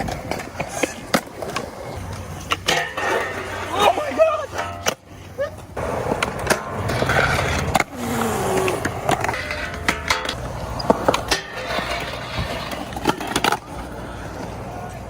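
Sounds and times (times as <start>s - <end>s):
skateboard clacks: 0.0s - 15.0s
skateboard wheels rolling on pavement: 0.0s - 15.0s.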